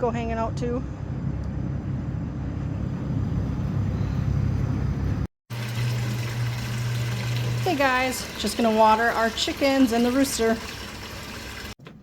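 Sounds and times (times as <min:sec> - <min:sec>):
low machinery rumble and hum: 0:00.0 - 0:10.1.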